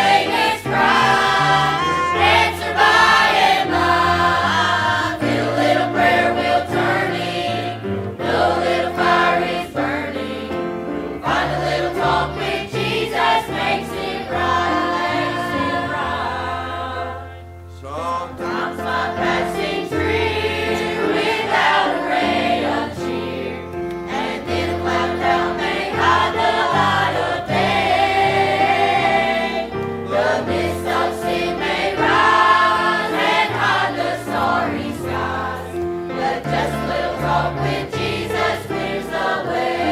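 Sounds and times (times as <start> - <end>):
congregation singing a hymn: 0.0 - 39.9
instrumental accompaniment: 0.0 - 39.9.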